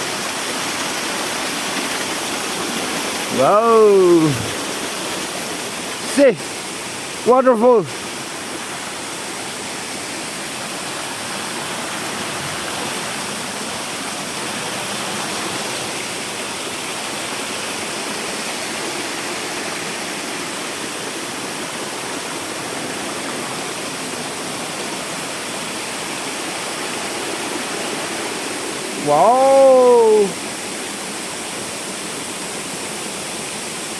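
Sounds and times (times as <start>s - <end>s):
waterfall and river rushing: 0.0s - 33.9s.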